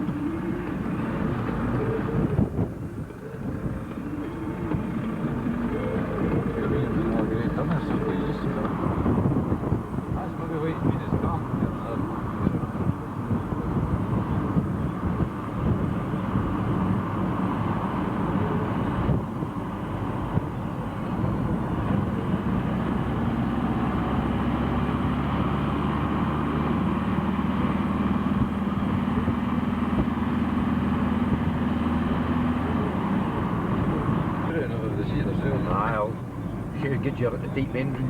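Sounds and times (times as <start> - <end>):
low engine hum: 0.0 - 38.0
vehicle engine and road noise: 0.0 - 38.0.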